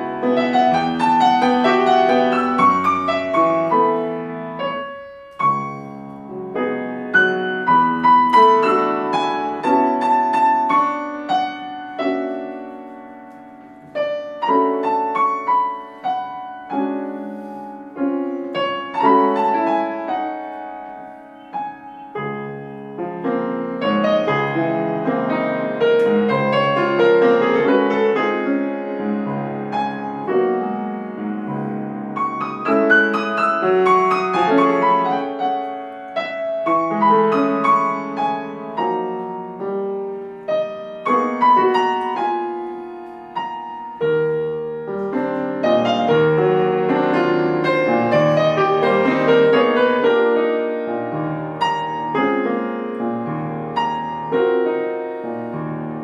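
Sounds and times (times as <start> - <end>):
solo piano piece: 0.0 - 56.0.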